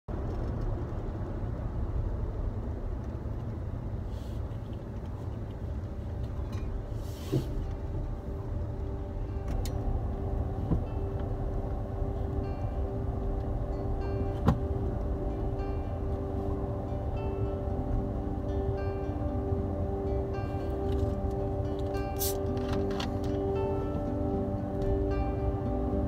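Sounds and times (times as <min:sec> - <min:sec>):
truck engine and road noise: 0:00.0 - 0:26.0
steady low tone: 0:00.1 - 0:26.0.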